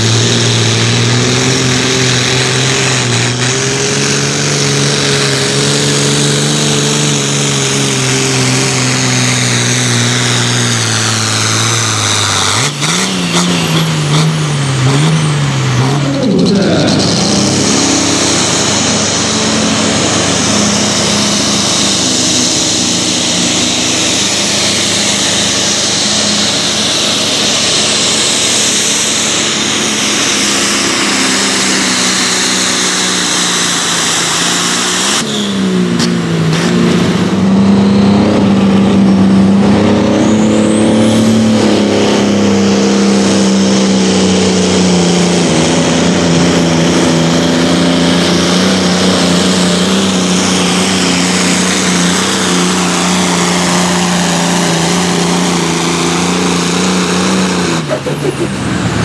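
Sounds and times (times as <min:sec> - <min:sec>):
pulling tractor engine roaring: 0:00.0 - 0:59.0
tractor engine under load: 0:00.0 - 0:59.0.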